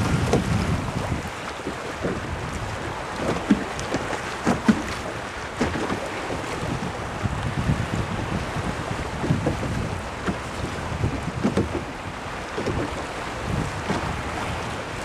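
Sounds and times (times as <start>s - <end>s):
sea waves: 0.0s - 15.0s
wind buffeting microphone: 0.0s - 15.0s.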